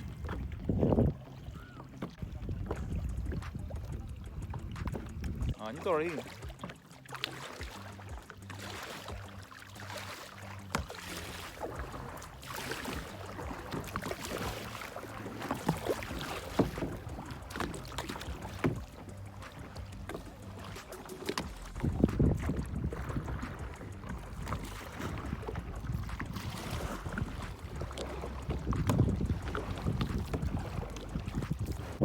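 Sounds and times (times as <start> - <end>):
wind buffeting microphone: 0.0 - 6.6, 11.6 - 32.0
paddle strokes splashing in water: 0.0 - 32.0.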